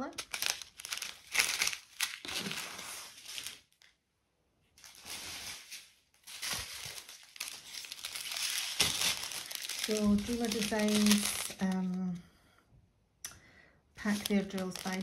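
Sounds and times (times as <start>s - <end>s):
plastic bags crinkling: 0.0s - 3.9s, 4.8s - 12.0s, 14.0s - 15.0s.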